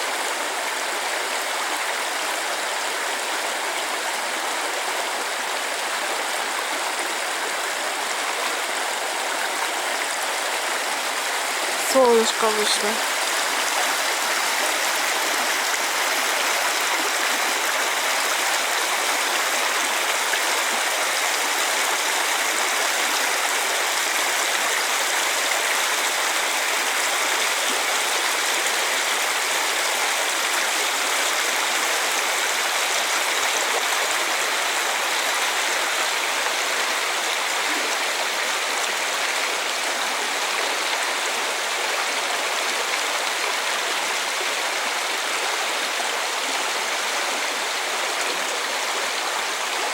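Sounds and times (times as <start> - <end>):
mountain stream rushing: 0.0 - 49.9.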